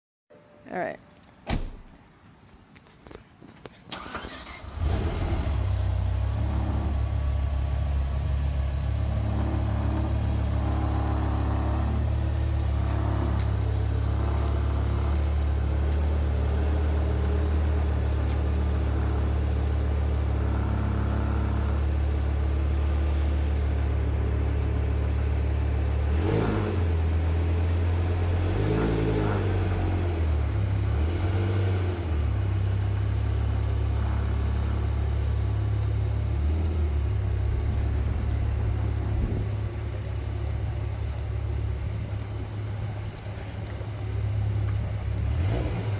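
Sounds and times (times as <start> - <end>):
car engine idling: 3.9 - 28.8, 29.6 - 45.9.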